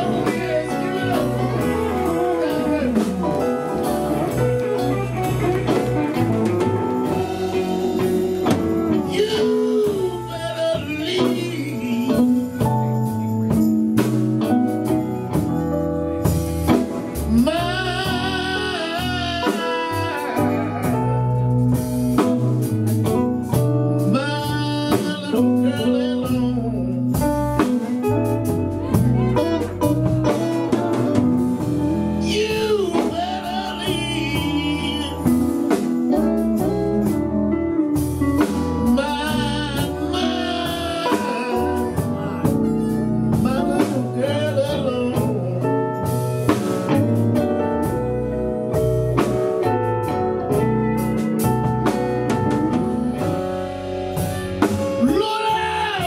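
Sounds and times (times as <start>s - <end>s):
person singing: 0.0s - 13.6s, 16.2s - 23.2s, 24.0s - 37.3s, 38.3s - 47.0s, 51.9s - 56.0s
bass and drum groove: 0.0s - 56.0s
blues band playing: 0.0s - 56.0s
electric guitar with vibrato: 0.0s - 56.0s.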